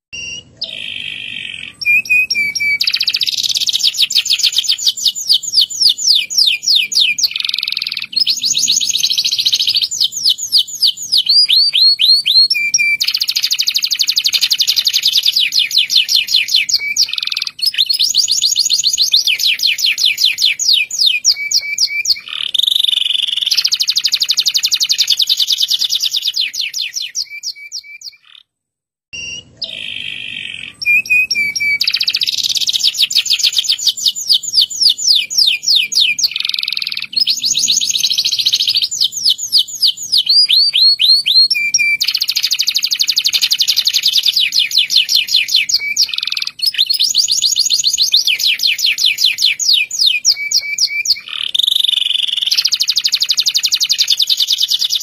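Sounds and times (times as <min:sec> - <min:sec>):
canary singing trills: 0:00.1 - 0:28.5, 0:29.1 - 0:55.0.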